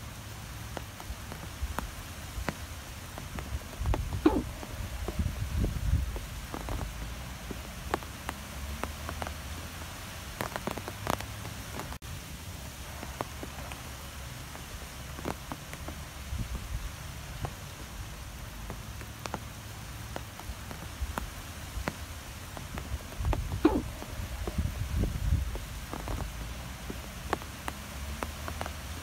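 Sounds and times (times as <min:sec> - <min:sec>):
drops ticking: 0:00.0 - 0:12.0, 0:14.5 - 0:29.0
steady rain falling: 0:00.0 - 0:29.0.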